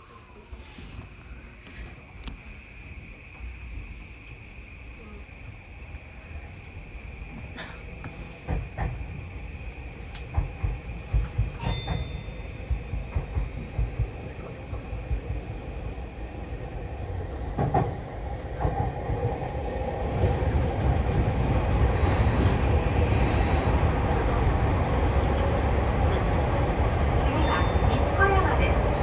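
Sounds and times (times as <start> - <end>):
train running: 0.0 - 29.0.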